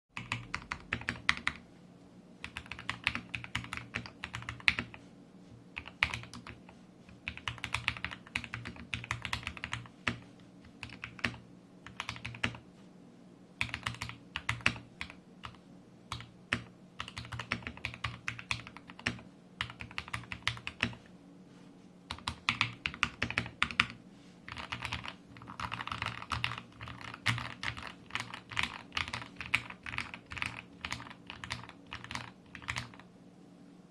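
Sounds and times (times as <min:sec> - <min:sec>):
mechanical keyboard typing: 0:00.2 - 0:01.6, 0:02.4 - 0:05.0, 0:05.8 - 0:12.6, 0:13.6 - 0:21.0, 0:22.1 - 0:33.1.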